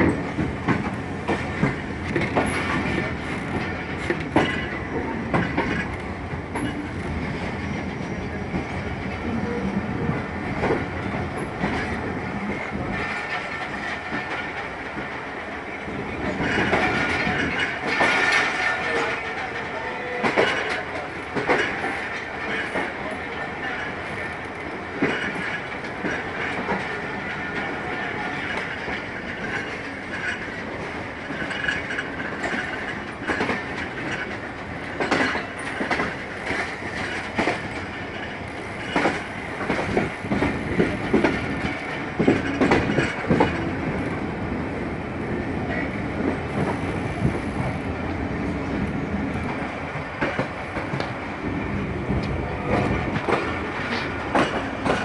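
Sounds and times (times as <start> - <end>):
wheels clacking over rail joints: 0.0 - 8.7, 9.6 - 44.3, 45.3 - 55.0
train wheels rolling rumble: 0.0 - 55.0.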